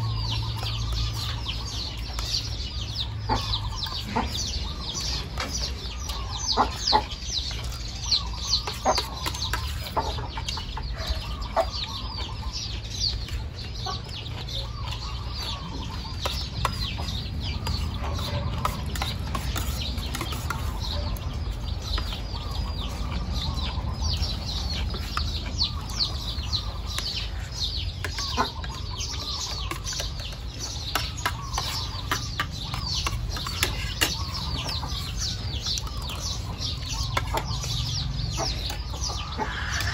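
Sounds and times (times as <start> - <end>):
chickens clucking: 0.0 - 39.9
small birds chirping: 0.0 - 39.9.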